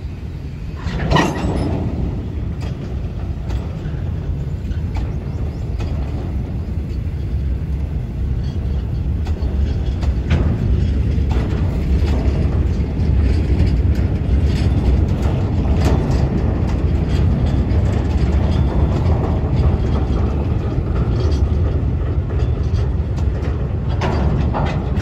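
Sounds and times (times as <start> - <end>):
clicks and knocks of train: 0.0 - 25.0
freight train rolling on rails: 0.0 - 25.0.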